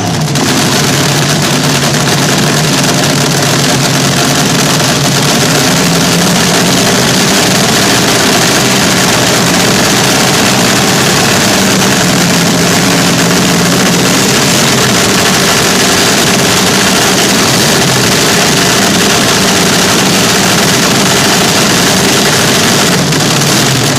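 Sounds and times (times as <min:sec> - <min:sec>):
dragster engines running: 0:00.0 - 0:23.9.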